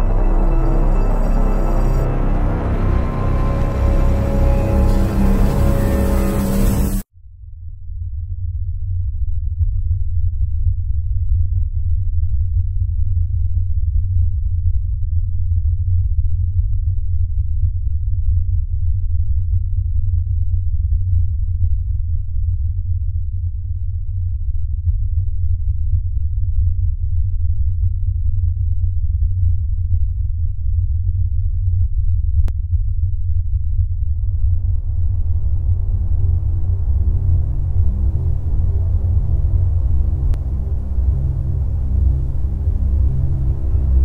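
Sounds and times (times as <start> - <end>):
deep bass drone: 0.0 - 44.0.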